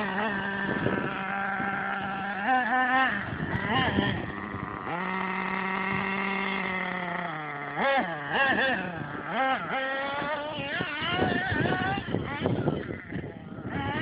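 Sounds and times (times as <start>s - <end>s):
rc car motor buzzing and revving: 0.0s - 14.0s.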